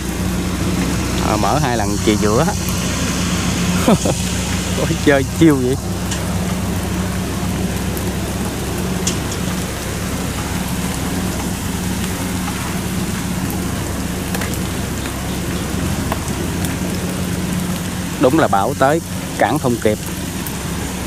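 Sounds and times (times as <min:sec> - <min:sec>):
combine harvester engine hum: 0:00.0 - 0:21.0
rain hissing: 0:00.0 - 0:21.0.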